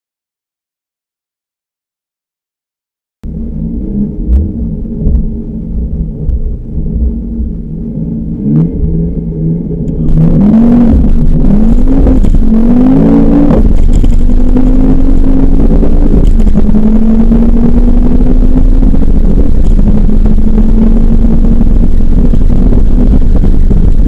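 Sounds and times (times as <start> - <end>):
car engine revving: 3.2 - 24.0.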